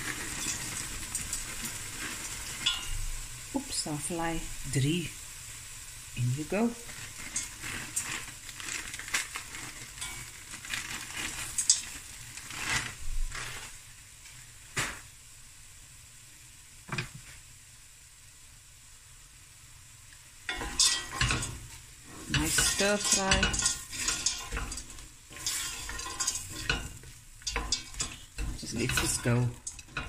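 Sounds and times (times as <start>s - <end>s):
frozen vegetables sizzling in pot: 0.0s - 30.0s.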